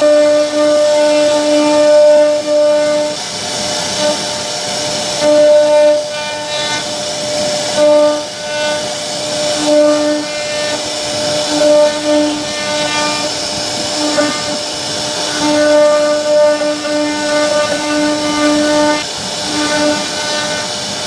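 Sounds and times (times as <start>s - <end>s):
pitched machine whine: 0.0s - 21.0s
router cutter hissing on wood: 0.0s - 21.0s.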